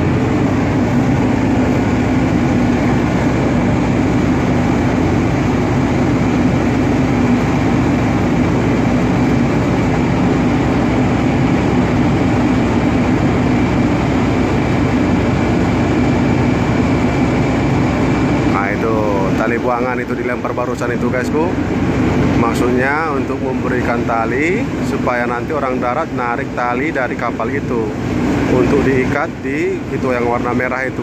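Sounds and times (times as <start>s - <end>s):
churning water: 0.0s - 31.0s
ship engine droning: 0.0s - 31.0s.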